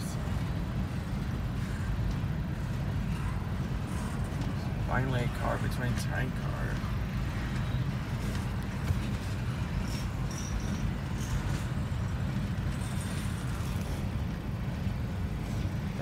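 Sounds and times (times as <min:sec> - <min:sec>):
muffled freight train rumble: 0:00.0 - 0:16.0.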